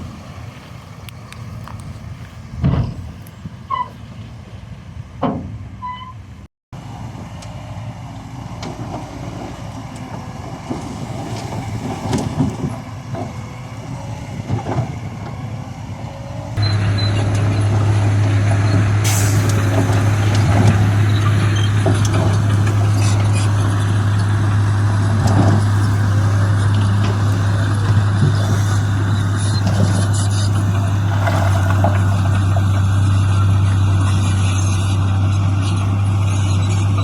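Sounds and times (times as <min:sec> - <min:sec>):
diesel machinery running: 0:00.0 - 0:37.0.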